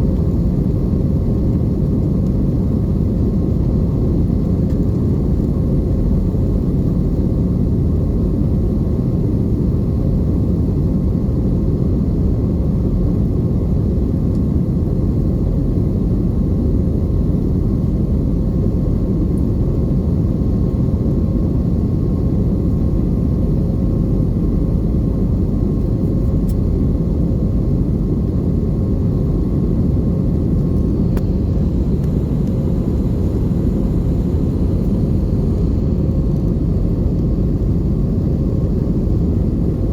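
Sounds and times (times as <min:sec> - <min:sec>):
faint steady hum: 0:00.0 - 0:39.9
jet engine and airflow rumble: 0:00.0 - 0:39.9.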